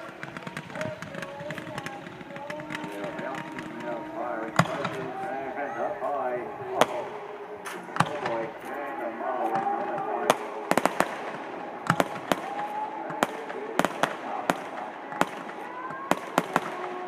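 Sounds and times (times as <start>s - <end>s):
fireworks exploding: 0.0s - 17.0s
people talking: 0.0s - 17.0s.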